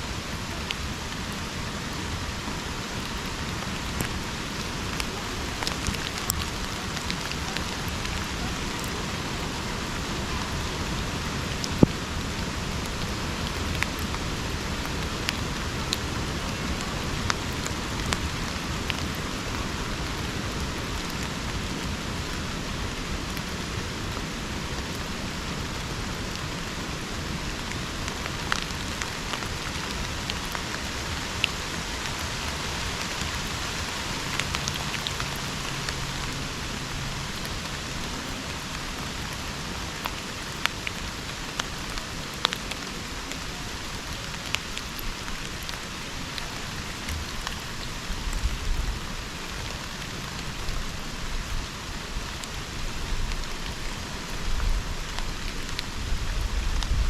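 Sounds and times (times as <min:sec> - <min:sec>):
steady rain falling: 0:00.0 - 0:57.0
sharp raindrops ticking: 0:00.1 - 0:57.0.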